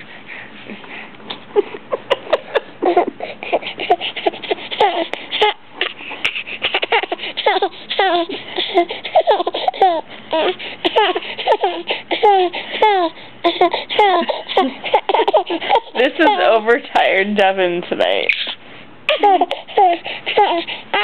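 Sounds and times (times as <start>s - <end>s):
baby laughing and squealing: 1.6s - 16.5s, 18.3s - 21.0s.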